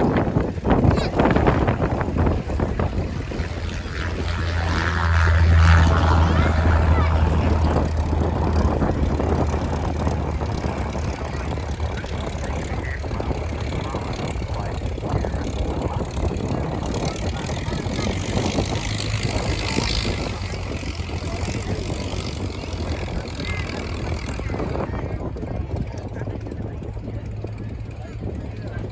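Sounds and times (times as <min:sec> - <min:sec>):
aeroplane engine drone: 0:00.0 - 0:28.9.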